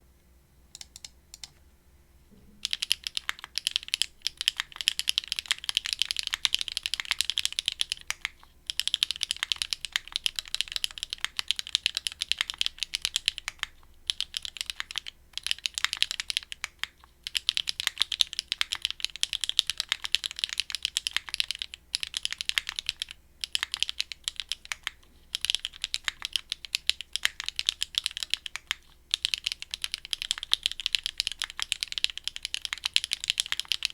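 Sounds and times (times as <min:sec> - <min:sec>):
mechanical keyboard typing: 0:00.7 - 0:01.6, 0:02.6 - 0:33.9.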